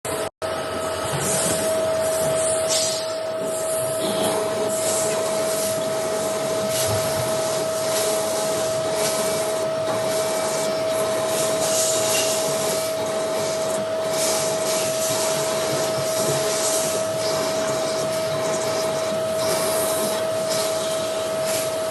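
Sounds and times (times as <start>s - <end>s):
machine whine: 0.1s - 21.9s.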